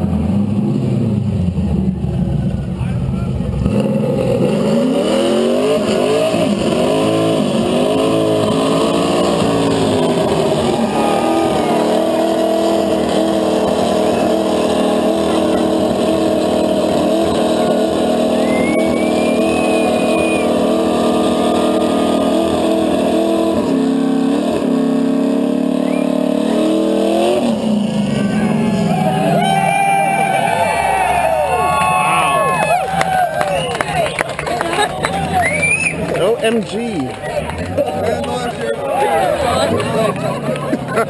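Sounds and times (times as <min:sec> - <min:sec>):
car engine revving hard: 0:03.2 - 0:41.0.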